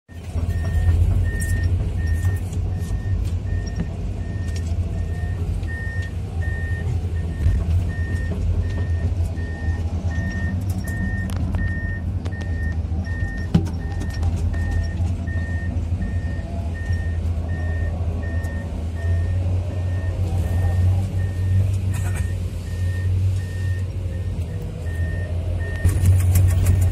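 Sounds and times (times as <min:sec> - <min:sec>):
travel alarm beeping: 0:00.1 - 0:26.0
diesel engine running: 0:00.1 - 0:26.9.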